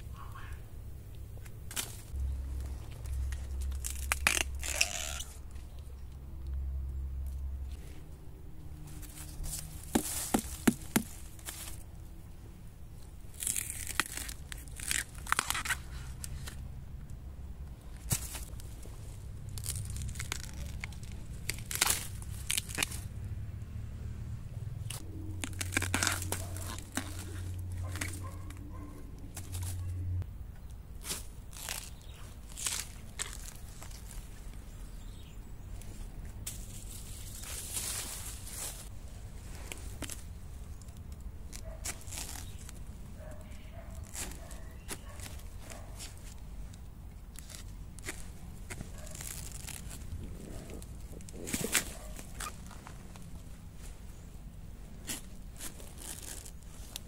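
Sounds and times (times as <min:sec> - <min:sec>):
dry leaf litter crackling: 0:01.4 - 0:06.1, 0:08.7 - 0:12.4, 0:13.0 - 0:16.7, 0:17.8 - 0:23.4, 0:24.8 - 0:57.0.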